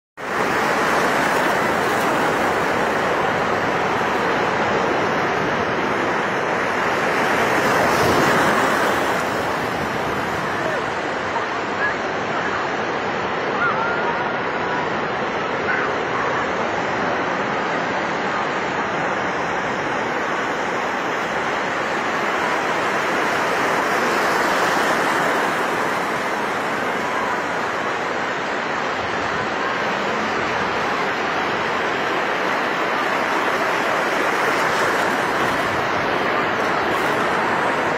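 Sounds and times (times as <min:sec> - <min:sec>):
waves breaking on shore: 0:00.2 - 0:37.9.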